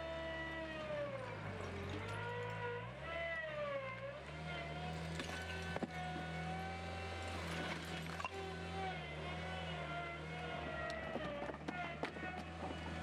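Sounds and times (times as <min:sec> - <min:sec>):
diesel engine hum: 0:00.0 - 0:13.0
hydraulic whine: 0:00.0 - 0:13.0.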